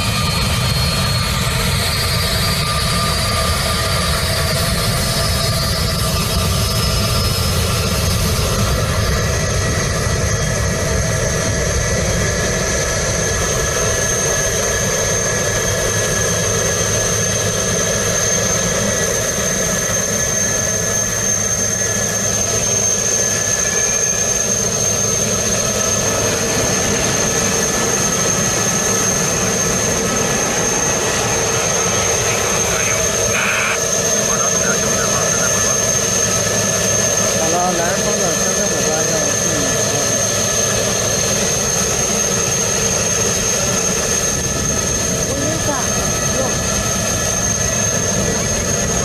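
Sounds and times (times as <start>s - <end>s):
high engine whine: 0.0s - 49.0s
jet engines rushing: 0.0s - 49.0s.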